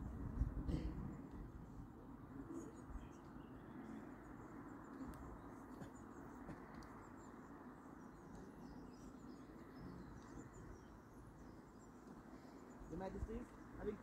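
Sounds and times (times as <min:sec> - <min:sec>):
small birds chirping: 0:00.3 - 0:14.0.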